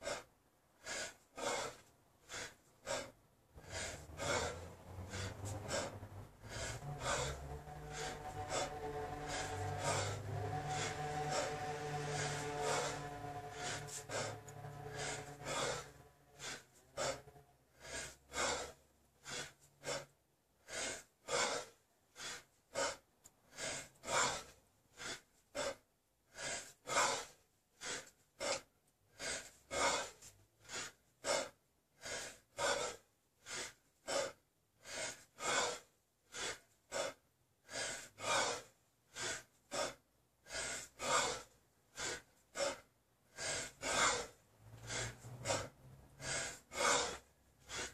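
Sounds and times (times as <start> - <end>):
man breathing hard: 0.0 - 47.9.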